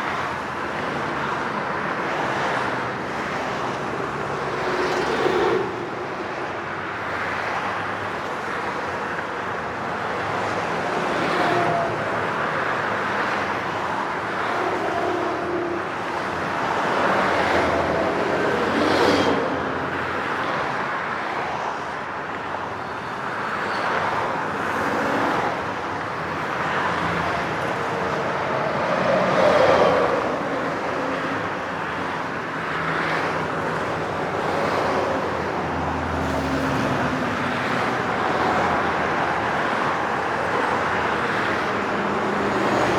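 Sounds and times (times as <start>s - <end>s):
highway traffic wash: 0.0s - 42.9s
vehicles passing by: 0.0s - 42.9s.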